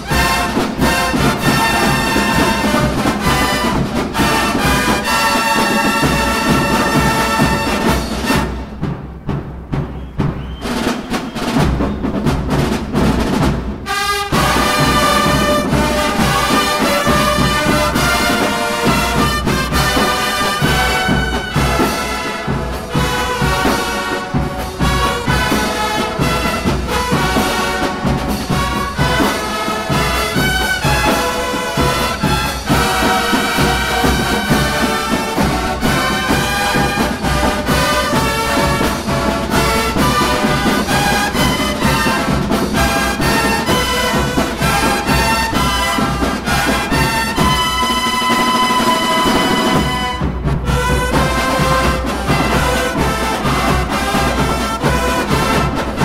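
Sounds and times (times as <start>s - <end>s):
brass bugles playing: 0.0s - 8.9s, 13.0s - 56.0s
drums: 0.0s - 56.0s.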